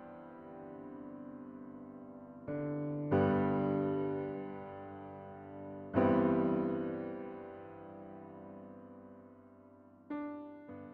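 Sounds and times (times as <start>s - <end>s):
piano chord: 0.0s - 10.9s.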